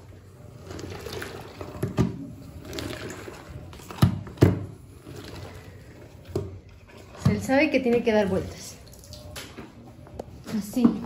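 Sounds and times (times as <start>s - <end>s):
water sloshing in mop bucket: 0.0s - 11.0s.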